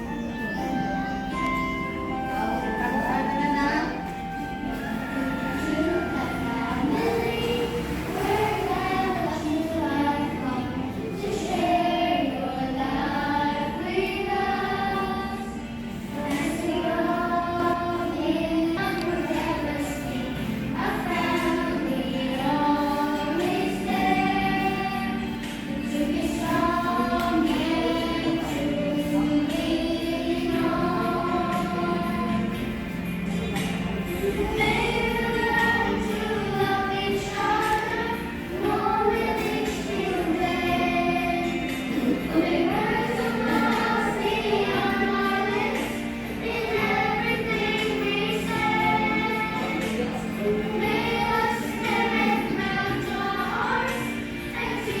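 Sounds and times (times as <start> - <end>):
group of voices singing: 2.2 - 55.0.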